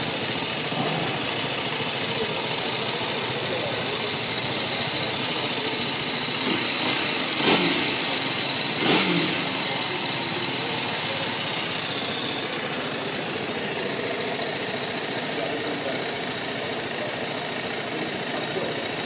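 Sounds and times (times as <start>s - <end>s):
engine throttle blips: 0.0s - 19.0s
motorcycle engine idling: 0.0s - 19.0s.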